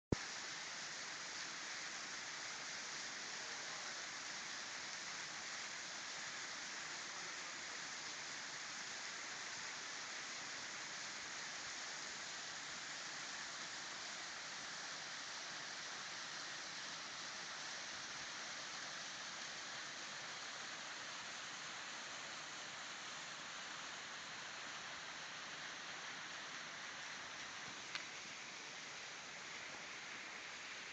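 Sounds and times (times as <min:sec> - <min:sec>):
small waterfall splashing: 0:00.1 - 0:30.9.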